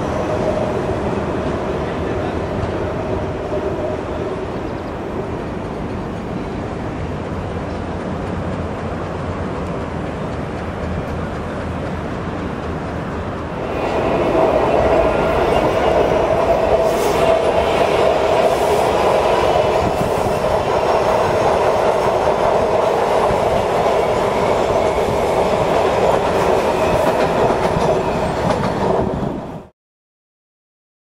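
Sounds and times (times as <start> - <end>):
train wheels on rail: 0.0 - 29.7.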